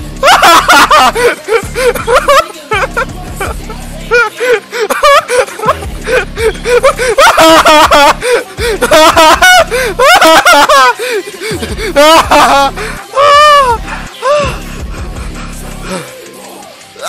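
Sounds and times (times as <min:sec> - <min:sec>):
faint song playing: 0:00.0 - 0:17.0
person laughing hard: 0:00.2 - 0:14.6.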